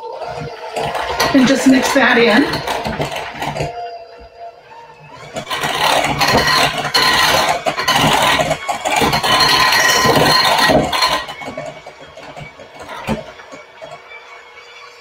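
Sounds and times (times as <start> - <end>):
electric mixer running: 0.0 - 15.0.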